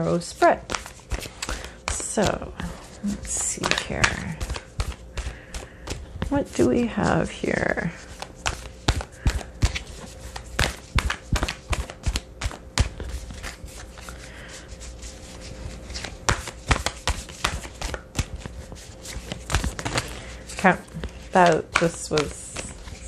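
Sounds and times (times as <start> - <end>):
cards being shuffled: 0.2 - 6.9, 7.9 - 23.0.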